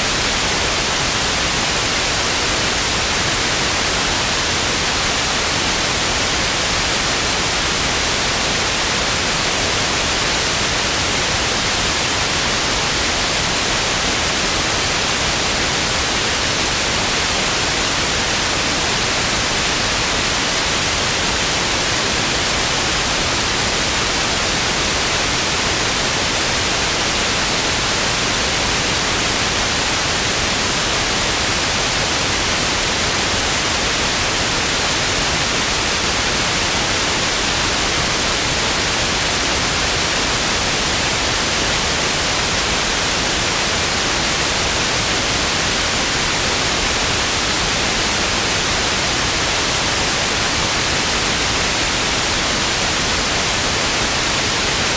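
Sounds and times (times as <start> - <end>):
television static hiss: 0.0 - 54.9.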